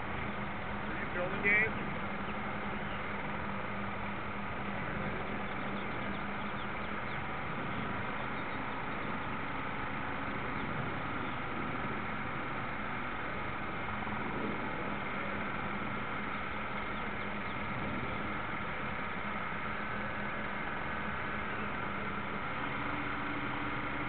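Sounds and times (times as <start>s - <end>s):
model boat motor humming: 0.0s - 24.0s.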